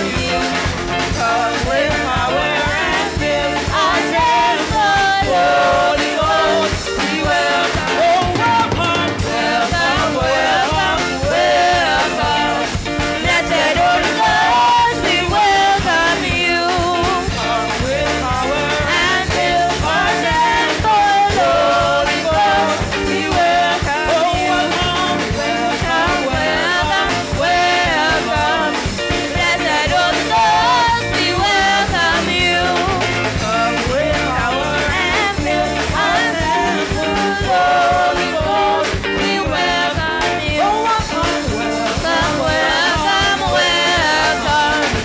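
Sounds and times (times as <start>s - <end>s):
band with drum kit: 0.0s - 45.0s
women singing together: 0.0s - 45.0s.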